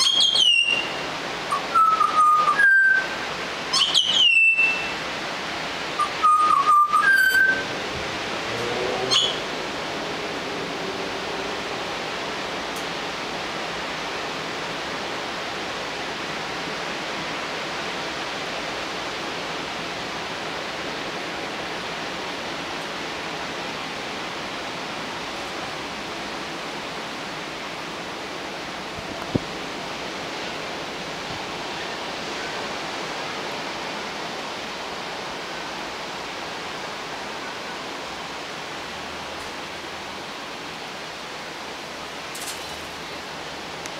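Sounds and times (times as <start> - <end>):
steady hiss: 0.0 - 43.9.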